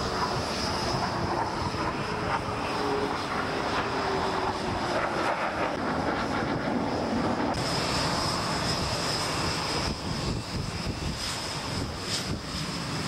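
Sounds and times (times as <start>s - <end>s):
high engine whine: 0.0s - 13.0s
jet engines rushing: 0.0s - 13.0s.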